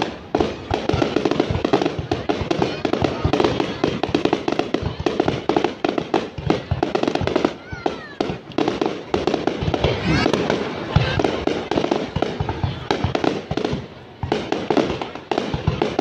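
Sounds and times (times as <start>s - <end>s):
firework bangs and crackling: 0.0s - 16.0s.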